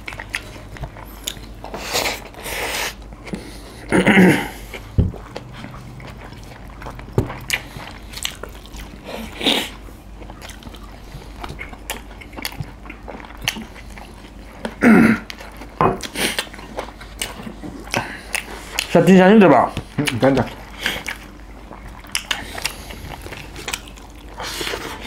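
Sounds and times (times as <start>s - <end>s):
chewing and mouth sounds: 0.0s - 3.9s, 4.5s - 25.0s.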